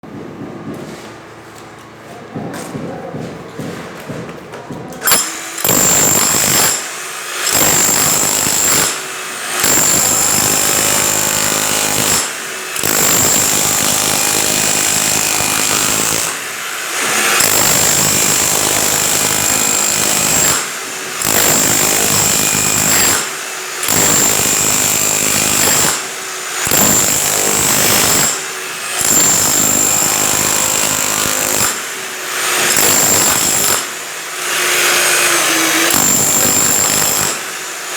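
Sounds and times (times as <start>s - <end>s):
power tool running in bursts: 4.7s - 37.9s.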